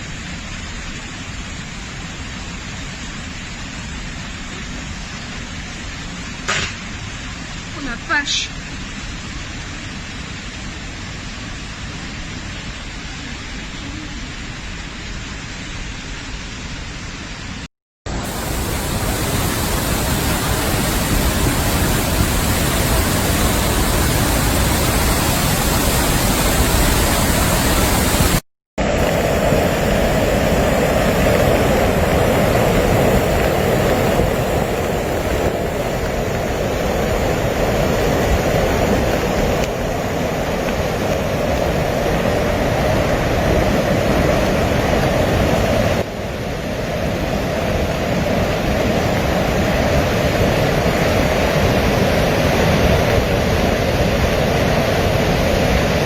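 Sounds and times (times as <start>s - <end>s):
rushing flood water: 0.0s - 56.0s.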